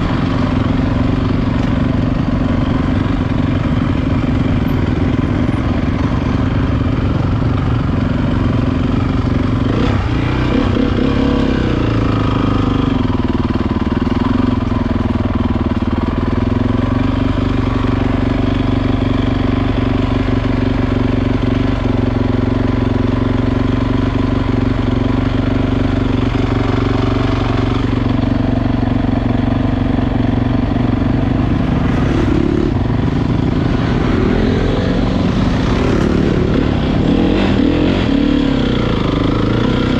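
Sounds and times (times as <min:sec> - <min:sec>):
motocross motorcycle engines running: 0:00.0 - 0:39.9.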